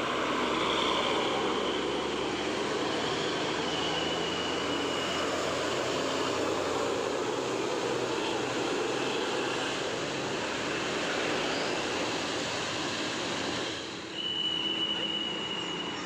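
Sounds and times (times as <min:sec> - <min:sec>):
high steady squeal: 0:00.0 - 0:16.0
road traffic passing: 0:00.0 - 0:16.0.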